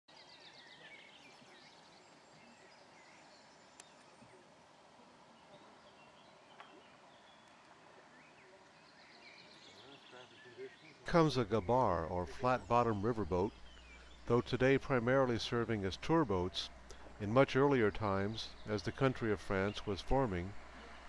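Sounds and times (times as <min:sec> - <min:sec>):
faint birds chirping: 0:00.1 - 0:21.0
steady outdoor hiss: 0:00.1 - 0:21.0.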